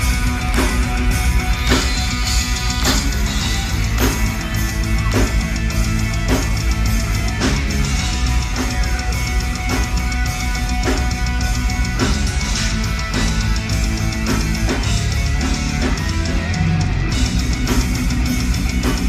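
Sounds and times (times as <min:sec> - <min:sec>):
electric guitar lead: 0:00.0 - 0:19.0
metal band playing live: 0:00.0 - 0:19.0
strong drum accents: 0:00.0 - 0:19.0.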